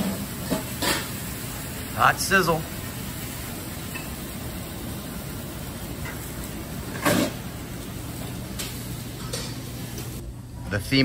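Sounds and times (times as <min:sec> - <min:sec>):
steaks sizzling on a grill: 0:00.0 - 0:10.2.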